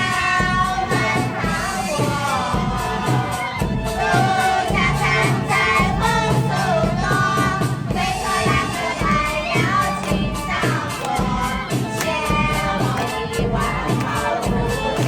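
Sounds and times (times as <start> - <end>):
group singing folk song: 0.0 - 15.0.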